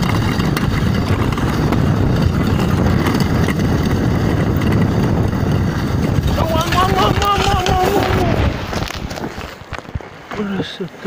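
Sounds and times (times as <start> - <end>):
vehicle engine and road rumble: 0.0 - 10.8.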